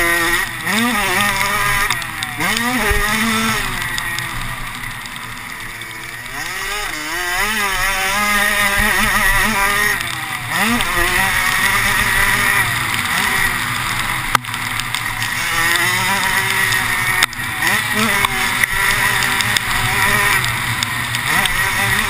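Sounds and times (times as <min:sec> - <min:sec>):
race car engine revving: 0:00.0 - 0:22.0
steady rushing noise: 0:00.0 - 0:22.0.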